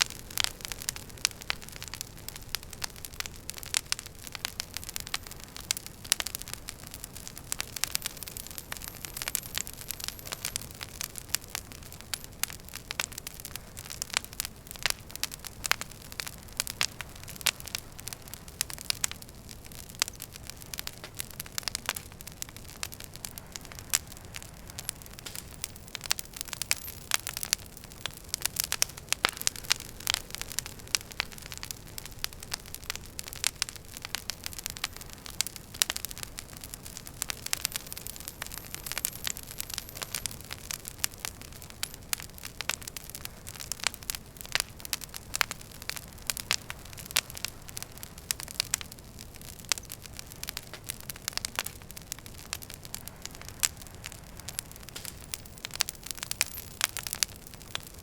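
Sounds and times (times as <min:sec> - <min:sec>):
low hiss: 0:00.0 - 0:58.0
wood fire crackling and popping: 0:00.0 - 0:58.0.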